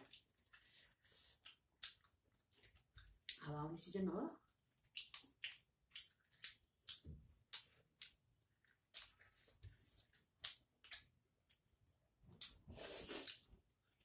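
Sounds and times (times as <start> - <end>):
chewing and lip smacking: 0.0 - 3.4, 4.4 - 14.0.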